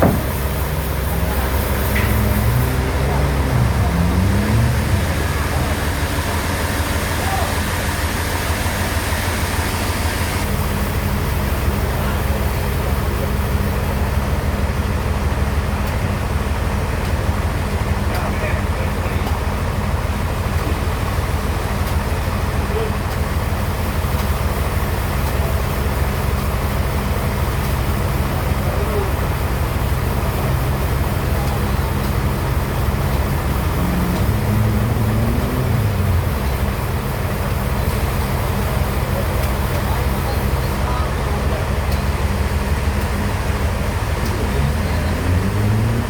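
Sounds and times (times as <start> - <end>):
bandsaw machinery humming: 0.0 - 14.0, 22.4 - 46.0.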